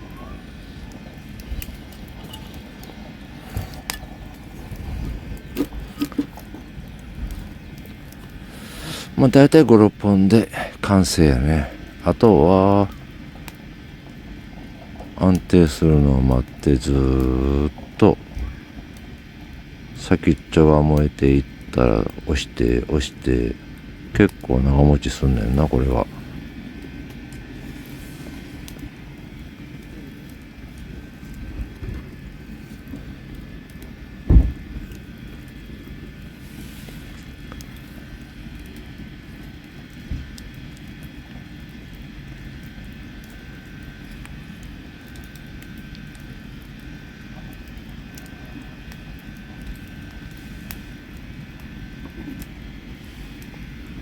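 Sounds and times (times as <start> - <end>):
campfire crackles: 0.0 - 54.0
low steady rumble: 0.0 - 54.0.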